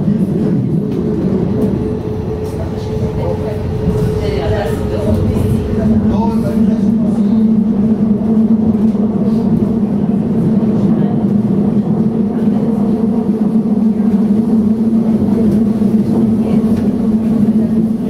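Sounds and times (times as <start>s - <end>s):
train humming and rolling: 0.0s - 18.0s.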